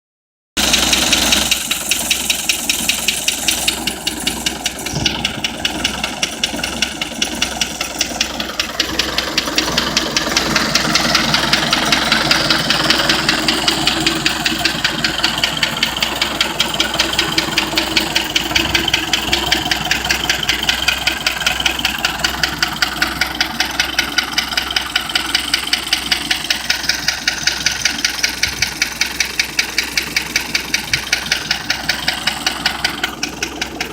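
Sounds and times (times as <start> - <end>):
tractor engine running: 0.6 - 33.9.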